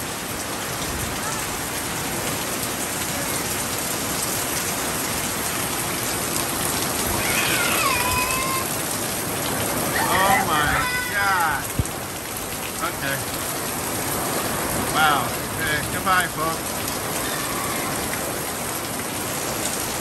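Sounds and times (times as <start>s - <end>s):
heavy rain on pavement and awning: 0.0s - 20.0s
water streaming off awning: 0.0s - 20.0s.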